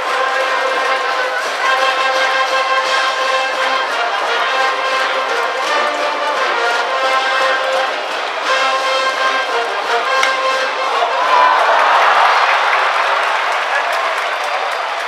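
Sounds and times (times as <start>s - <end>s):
brass band playing: 0.0s - 13.9s.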